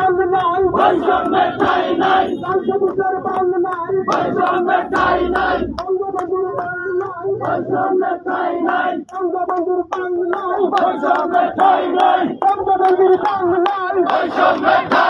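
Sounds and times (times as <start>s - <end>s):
crowd chanting slogans: 0.0s - 15.0s.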